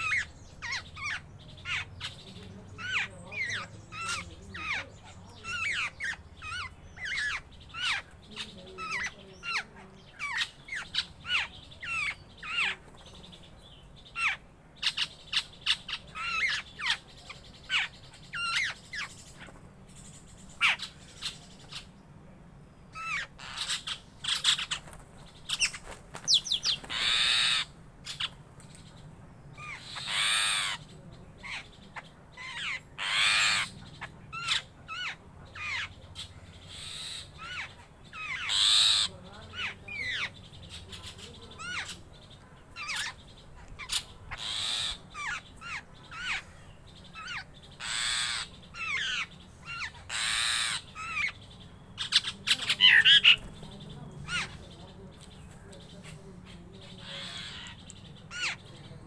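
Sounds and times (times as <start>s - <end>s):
loud harsh bird calls: 0.0s - 59.0s.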